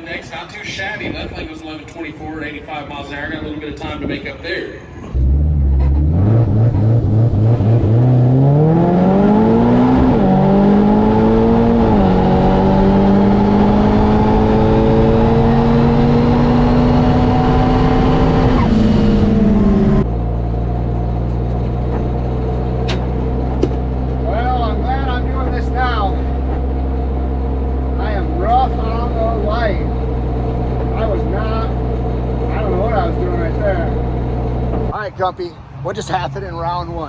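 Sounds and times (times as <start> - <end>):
racing car engine at full throttle: 5.0 - 37.0.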